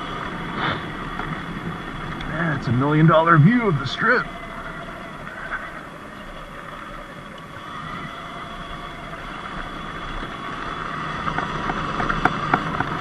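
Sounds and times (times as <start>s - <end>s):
electric dirt bike motor whine: 0.0s - 13.0s
tyre and wind noise: 0.0s - 13.0s.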